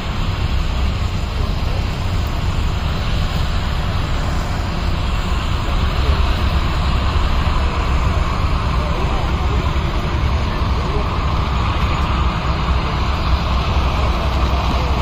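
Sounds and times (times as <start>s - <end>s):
distant jet engine roar: 0.0s - 15.0s.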